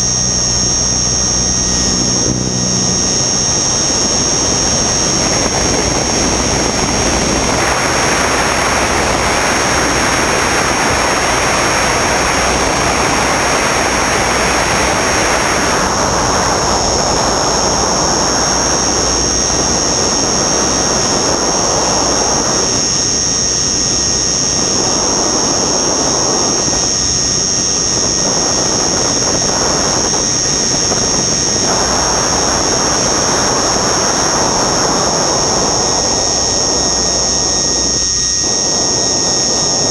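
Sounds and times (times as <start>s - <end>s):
high motor whine: 0.0s - 39.9s
rotor wash and wind hiss: 0.0s - 39.9s.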